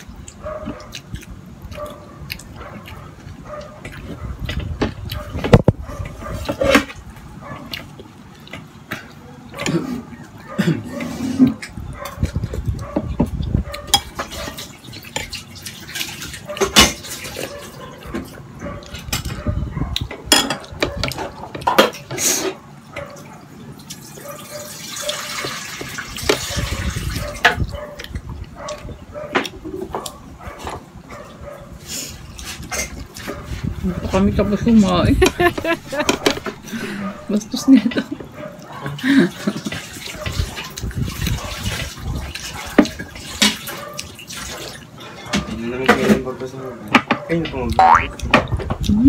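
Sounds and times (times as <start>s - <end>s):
child chewing food: 0.0s - 45.4s, 47.6s - 49.0s.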